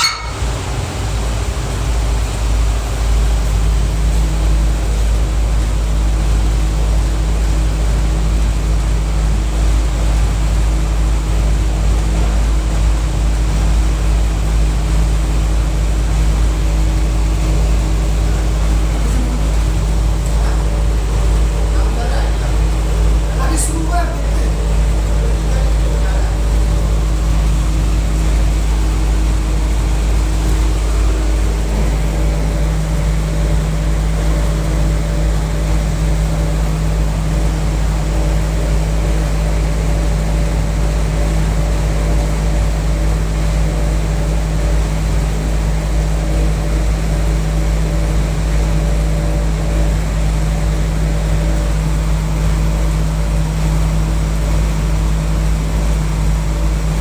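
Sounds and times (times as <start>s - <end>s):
air conditioner humming: 0.0s - 57.0s.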